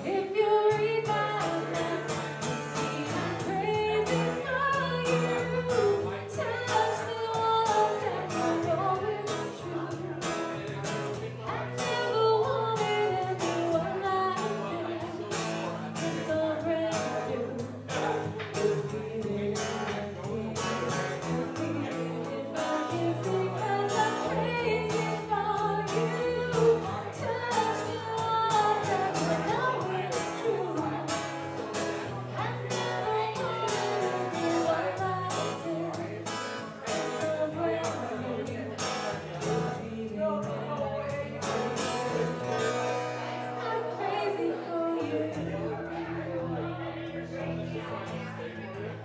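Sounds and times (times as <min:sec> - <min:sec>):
woman singing a ballad: 0:00.0 - 0:10.1, 0:11.7 - 0:15.4, 0:16.0 - 0:17.9, 0:18.5 - 0:31.2, 0:32.3 - 0:36.4, 0:37.0 - 0:38.6, 0:39.4 - 0:42.0, 0:43.6 - 0:46.3
strummed acoustic guitar: 0:00.0 - 0:49.0.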